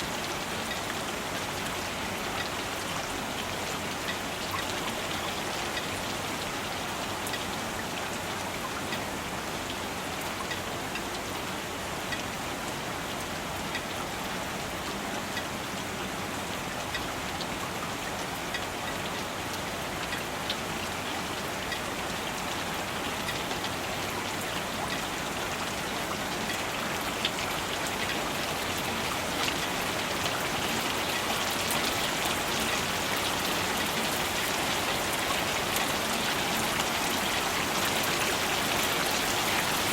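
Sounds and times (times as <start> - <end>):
raindrops ticking on surfaces: 0.0 - 39.9
steady rain hiss: 0.0 - 39.9.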